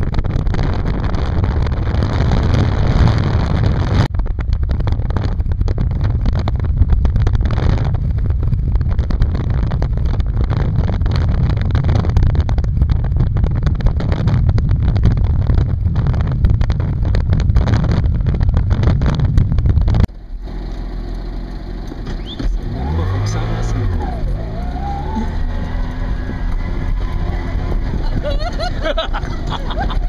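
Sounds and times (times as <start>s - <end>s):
wind buffeting microphone: 0.0s - 20.1s, 21.9s - 30.0s
car engine and road noise: 0.0s - 30.0s.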